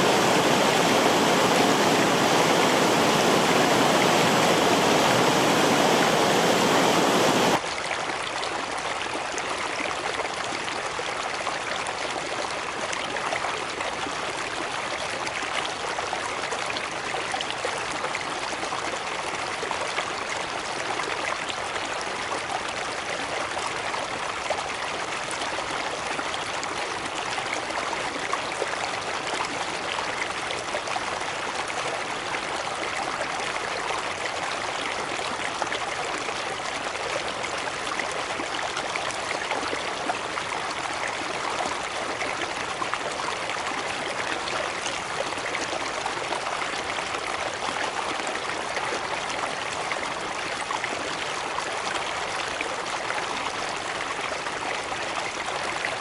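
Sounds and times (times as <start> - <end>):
stream water rushing and splashing: 0.0 - 56.0.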